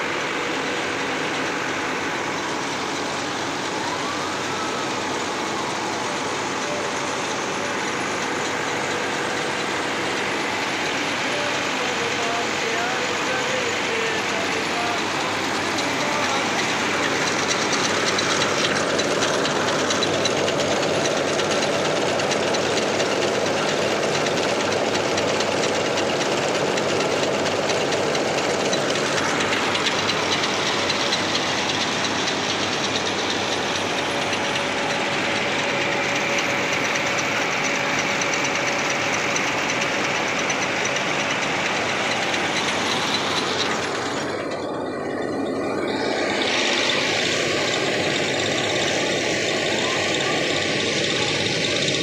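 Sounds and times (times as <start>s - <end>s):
rice mill mechanical din: 0.0s - 52.0s.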